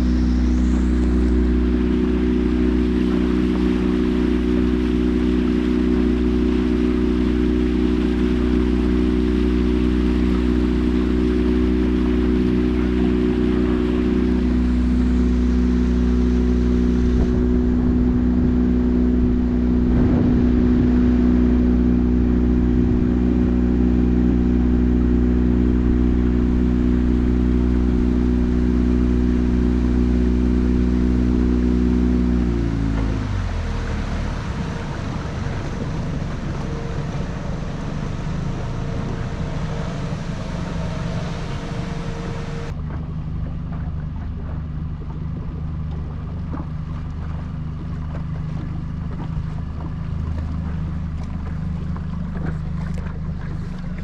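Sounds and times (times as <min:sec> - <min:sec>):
motorboat engine: 0:00.0 - 0:54.0.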